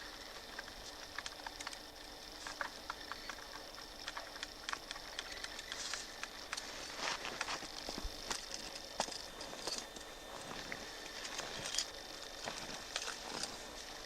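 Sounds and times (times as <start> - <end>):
light crackles and rustles: 0.1 - 14.0.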